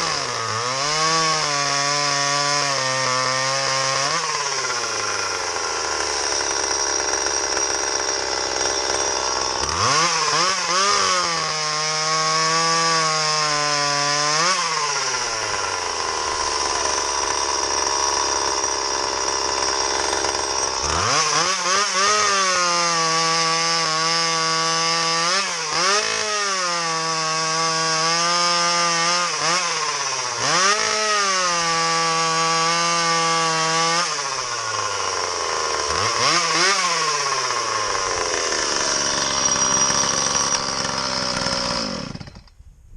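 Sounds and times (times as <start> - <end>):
chainsaw idling and revving: 0.0 - 42.6
chainsaw cutting wood: 0.0 - 42.7.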